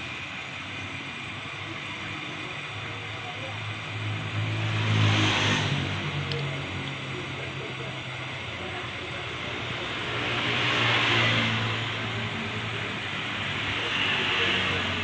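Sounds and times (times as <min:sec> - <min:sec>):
gas brazing torch hissing: 0:00.0 - 0:15.0.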